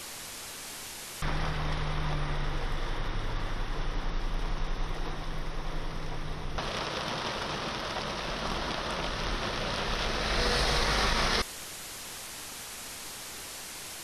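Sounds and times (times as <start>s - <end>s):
heavy rain pouring: 0.7s - 14.0s.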